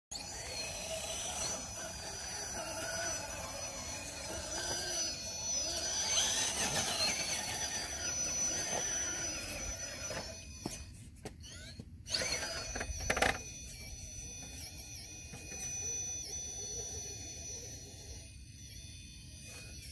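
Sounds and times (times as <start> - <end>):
electric motor and gears whining: 0.1 - 19.9.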